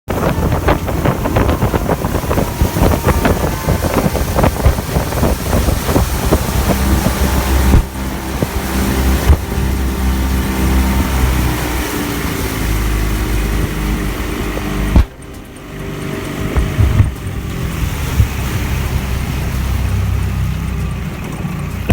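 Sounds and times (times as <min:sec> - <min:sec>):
wind on microphone: 0:00.1 - 0:20.2
low engine hum: 0:00.1 - 0:21.9.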